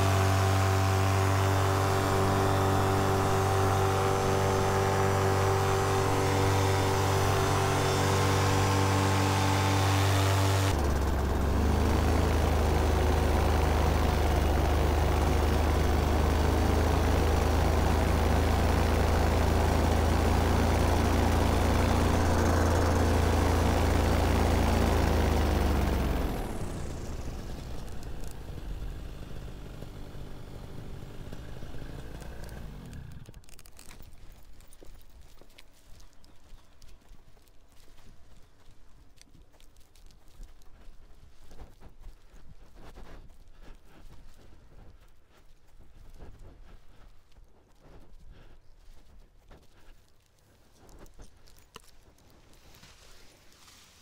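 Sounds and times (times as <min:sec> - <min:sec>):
paramotor engine and propeller: 0:00.0 - 0:54.0.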